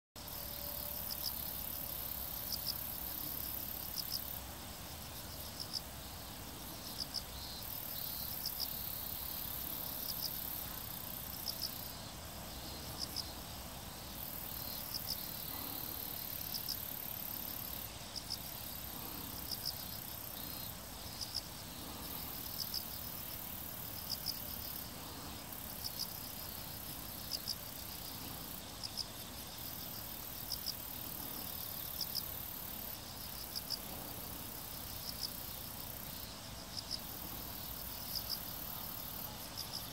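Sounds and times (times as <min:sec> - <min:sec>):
high insect buzz: 0:00.2 - 0:39.9
insects chirping: 0:00.2 - 0:39.9.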